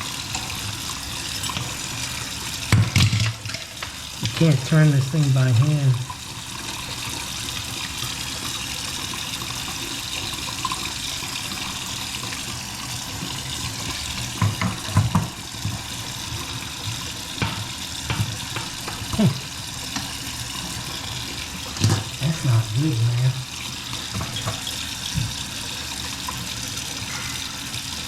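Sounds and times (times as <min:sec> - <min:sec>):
water running into a sink: 0:00.0 - 0:28.0.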